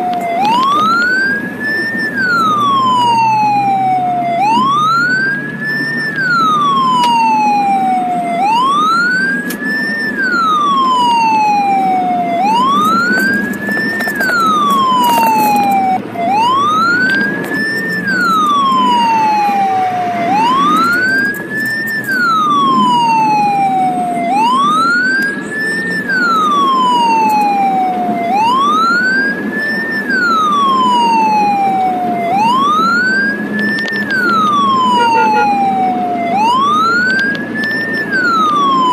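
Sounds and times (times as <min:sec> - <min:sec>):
ambulance siren wailing: 0:00.0 - 0:38.9
engine and road rumble: 0:00.0 - 0:38.9.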